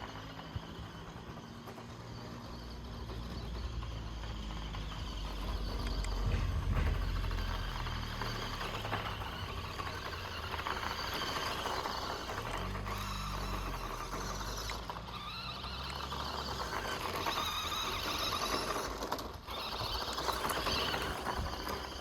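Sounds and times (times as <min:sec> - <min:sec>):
low electric motor hum: 0:00.0 - 0:22.0.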